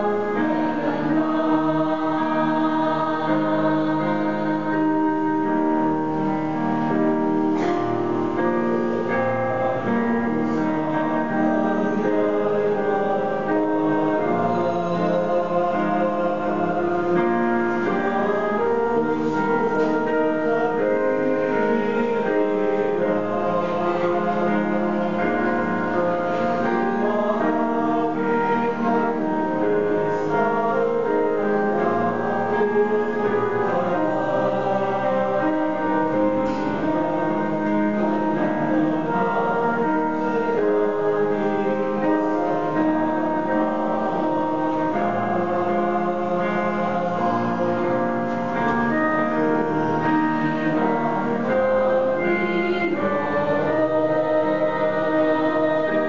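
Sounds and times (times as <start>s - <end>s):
choir singing a hymn: 0.0s - 56.0s
piano accompaniment: 0.0s - 56.0s.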